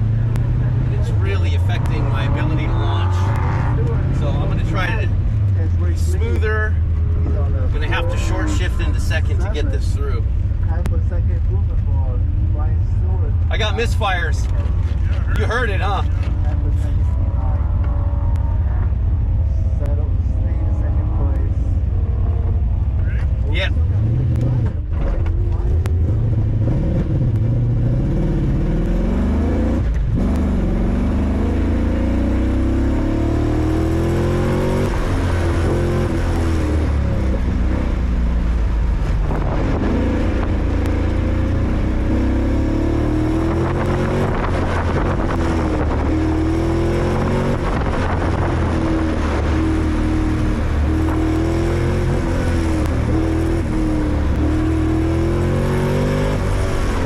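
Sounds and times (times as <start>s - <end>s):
car engine revving with misfires: 0.0s - 57.0s.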